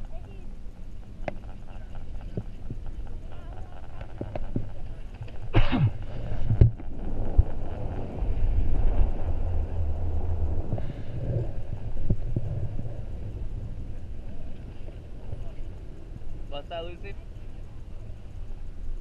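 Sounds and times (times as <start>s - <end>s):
falling whine: 0.0s - 19.0s
low rumble of haul rope: 0.0s - 19.0s.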